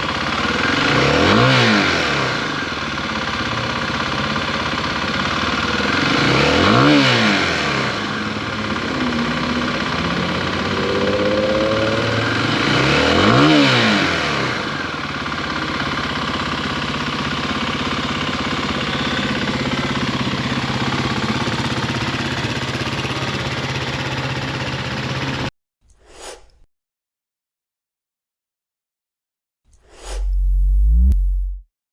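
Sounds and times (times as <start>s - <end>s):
motorcycle engine idling and revving: 0.0s - 25.5s, 30.2s - 31.7s.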